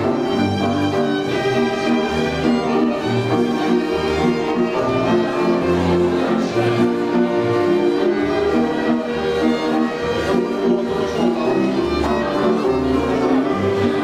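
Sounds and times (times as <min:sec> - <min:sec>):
dance music on bowed strings: 0:00.0 - 0:14.0.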